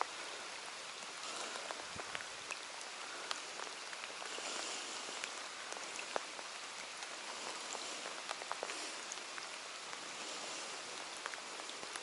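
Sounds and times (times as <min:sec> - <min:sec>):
close raindrops ticking: 0:00.0 - 0:12.0
rain falling on water: 0:00.0 - 0:12.0.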